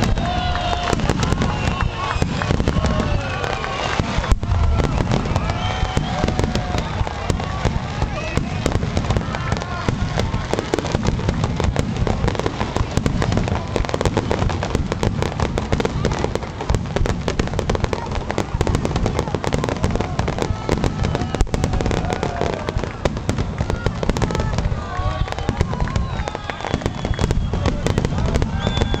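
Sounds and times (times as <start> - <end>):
fireworks crackling pops: 0.0 - 29.0
fireworks low booming: 0.0 - 29.0.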